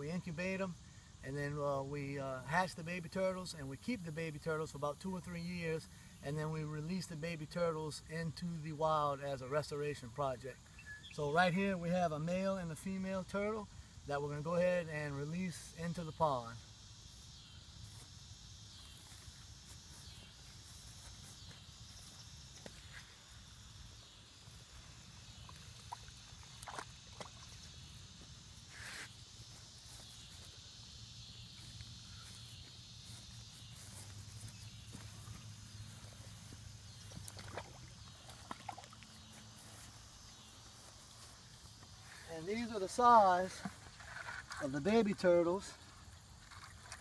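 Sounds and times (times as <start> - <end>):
high insect chorus: 0.0 - 47.0.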